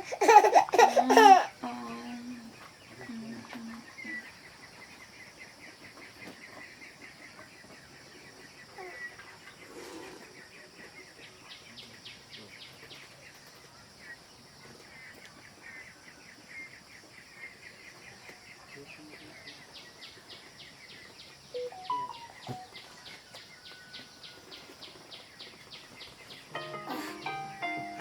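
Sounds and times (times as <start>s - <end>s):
small birds chirping: 0.0s - 28.0s
steady high-pitched hiss: 0.0s - 28.0s.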